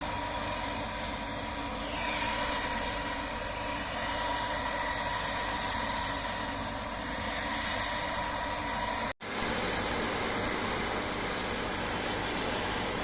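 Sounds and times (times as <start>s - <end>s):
combine harvester running: 0.0s - 13.0s
constant high whine: 0.0s - 13.0s.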